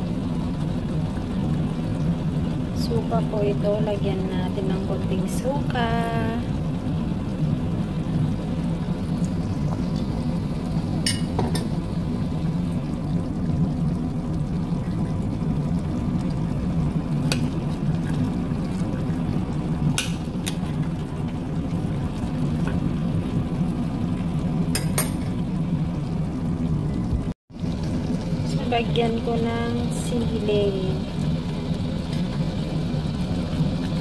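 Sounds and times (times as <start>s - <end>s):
stew simmering in a pot: 0.0s - 34.0s.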